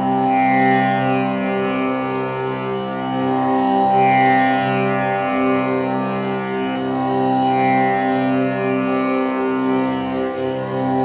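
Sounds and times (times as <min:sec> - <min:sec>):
tanpura drone: 0:00.0 - 0:11.0.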